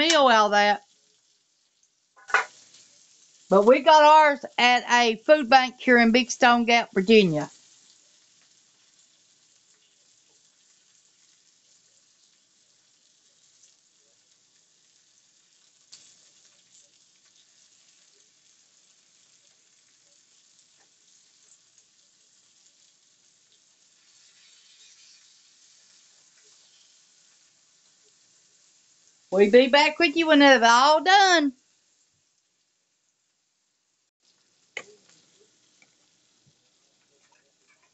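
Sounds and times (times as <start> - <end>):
ham sizzling in a skillet: 0.0 - 37.9.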